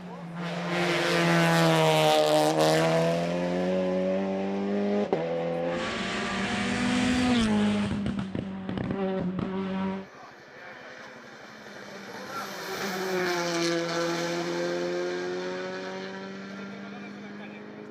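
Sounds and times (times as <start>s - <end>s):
race car engine at high revs: 0.0s - 17.9s.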